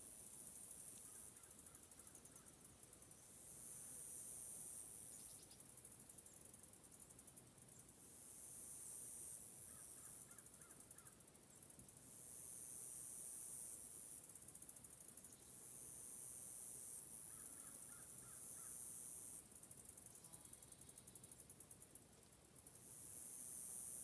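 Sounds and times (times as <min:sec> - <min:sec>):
insect chorus buzzing and trilling: 0:00.0 - 0:24.0.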